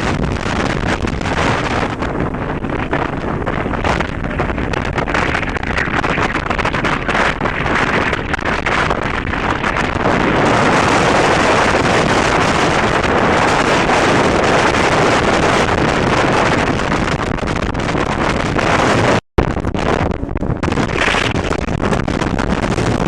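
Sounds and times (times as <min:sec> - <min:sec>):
boat engine rushing: 0:00.0 - 0:23.0
wind buffeting microphone: 0:00.0 - 0:23.0.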